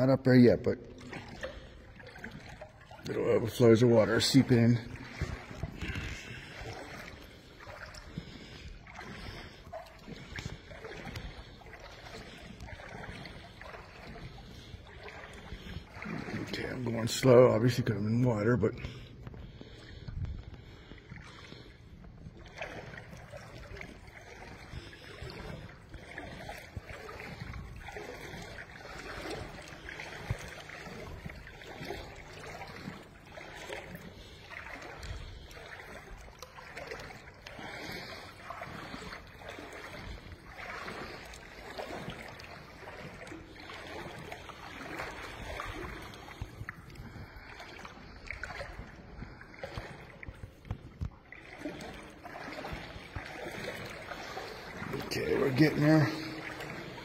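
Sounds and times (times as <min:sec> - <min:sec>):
boots sloshing through water: 0:00.0 - 0:57.0.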